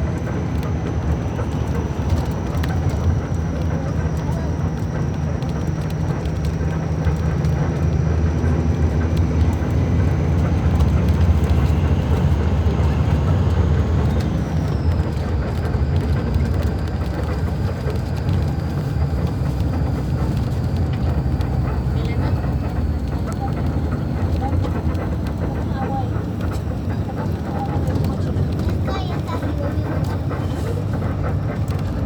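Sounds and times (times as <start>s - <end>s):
bus diesel engine droning: 0.0s - 32.0s.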